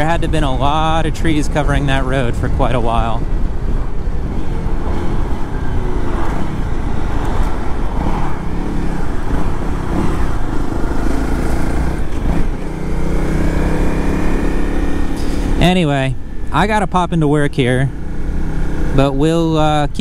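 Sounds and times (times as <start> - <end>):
road and wind rush: 0.0 - 20.0
motorcycle engine running: 3.2 - 19.9.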